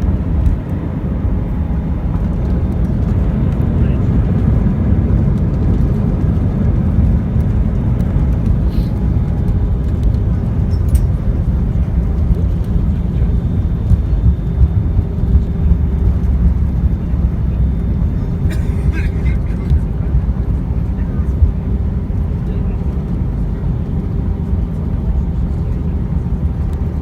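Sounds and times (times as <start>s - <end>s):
airliner low rumble: 0.0s - 27.0s.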